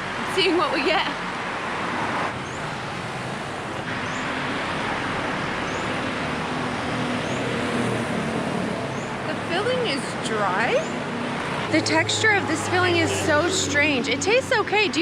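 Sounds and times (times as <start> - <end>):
passing vehicles hum: 0.0 - 15.0.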